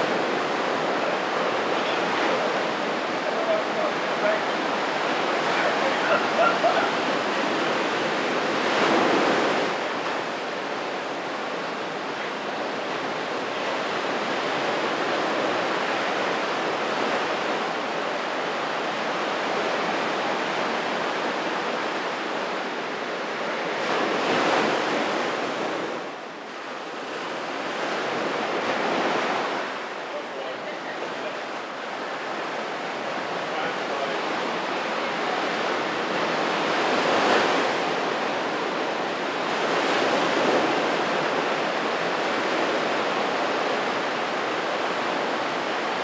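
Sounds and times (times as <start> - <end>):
waves breaking on sandy beach: 0.0 - 46.0.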